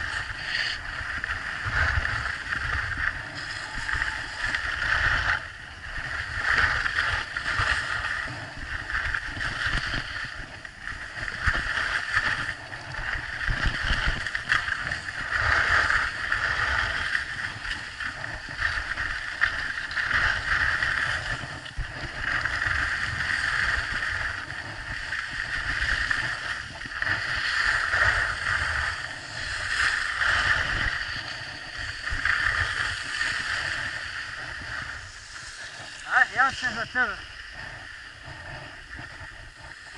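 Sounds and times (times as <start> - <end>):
skis carving over snow: 0.0 - 39.9
wind buffeting microphone: 0.0 - 39.9.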